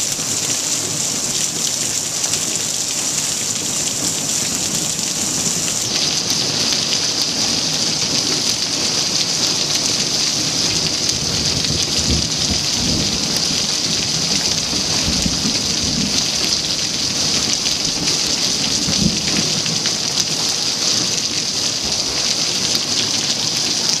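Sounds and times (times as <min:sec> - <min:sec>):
heavy rain on concrete and water: 0:00.0 - 0:24.0
low thunder rumbling: 0:03.2 - 0:23.0.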